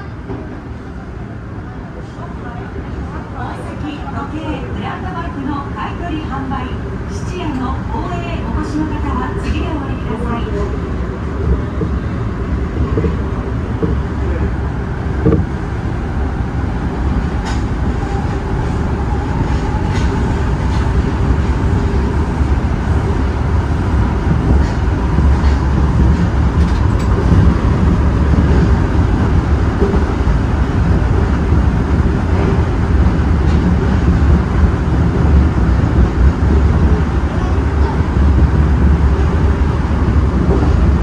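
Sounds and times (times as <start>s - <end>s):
subway train wheels rumbling: 0.0s - 41.0s.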